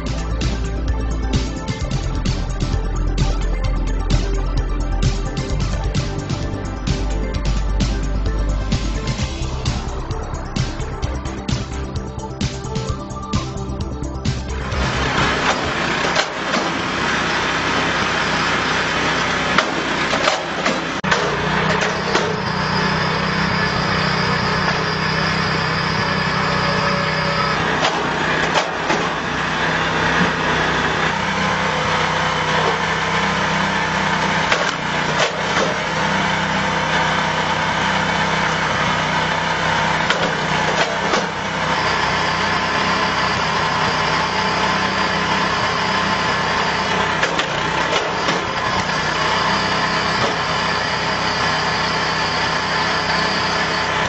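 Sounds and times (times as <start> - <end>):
small petrol engine running: 0.0 - 54.0.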